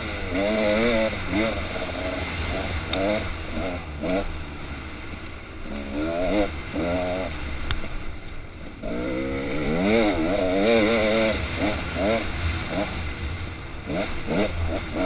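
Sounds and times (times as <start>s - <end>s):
dirt bike engine revving: 0.0s - 8.0s, 8.6s - 15.0s.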